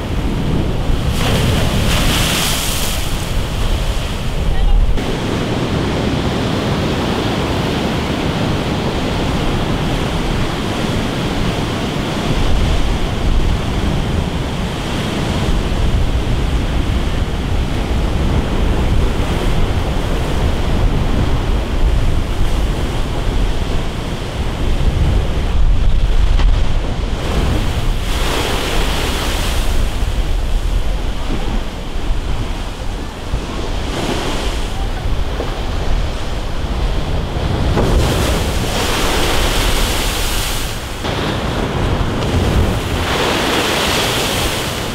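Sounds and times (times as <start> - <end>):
surf crashing against sea wall: 0.0 - 44.9
wind buffeting microphone: 0.0 - 44.9.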